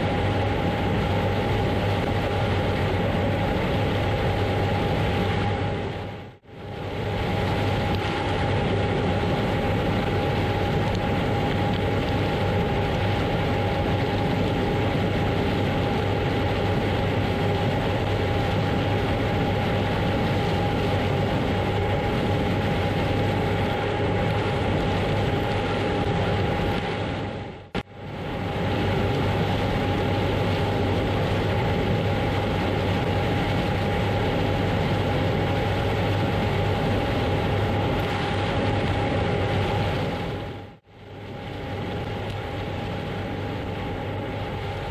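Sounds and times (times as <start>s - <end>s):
combine harvester drone: 0.0s - 44.9s.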